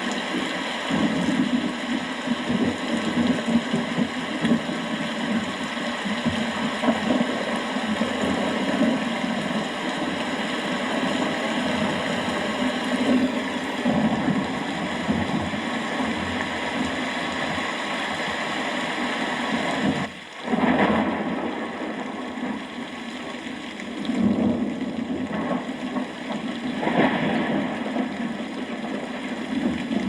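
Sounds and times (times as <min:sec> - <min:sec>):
distant thunder rumbling: 0:00.0 - 0:22.8, 0:23.9 - 0:30.0
steady rain: 0:00.0 - 0:30.0.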